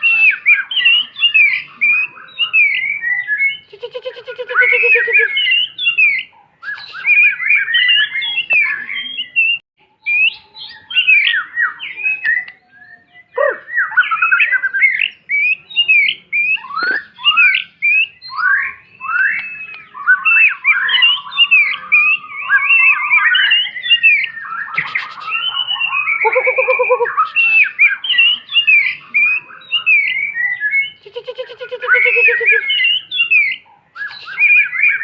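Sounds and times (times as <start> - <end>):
bird singing whistled song: 0.0 - 35.0.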